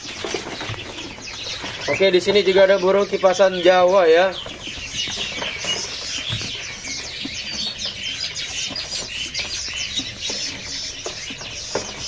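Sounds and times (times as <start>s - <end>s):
caged songbirds chirping: 0.0s - 12.0s.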